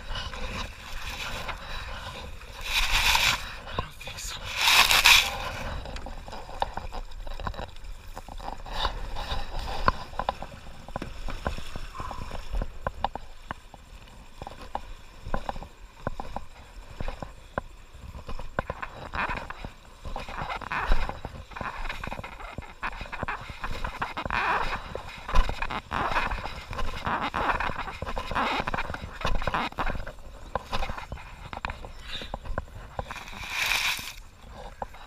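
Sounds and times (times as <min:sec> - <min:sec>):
shallow river water rushing: 0:00.0 - 0:18.1, 0:24.7 - 0:35.0.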